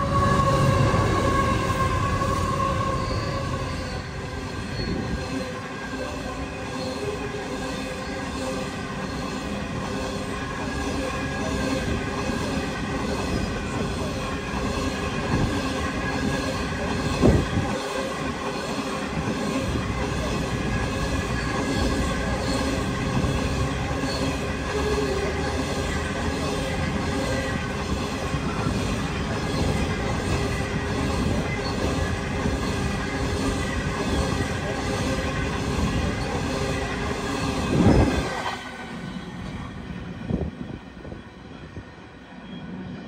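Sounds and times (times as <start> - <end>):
train wheels squealing on rail: 0.0 - 43.0.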